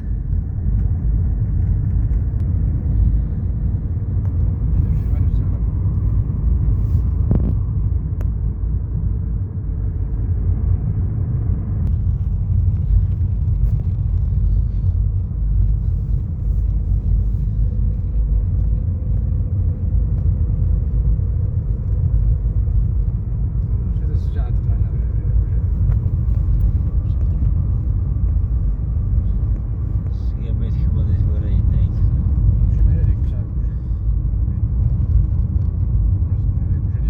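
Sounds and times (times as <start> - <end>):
low rumble: 0.0 - 37.0.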